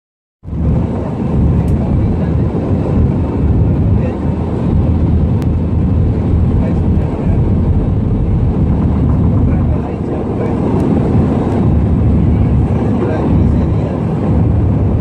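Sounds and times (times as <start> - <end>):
jet cabin engine rumble: 0.4 - 15.0.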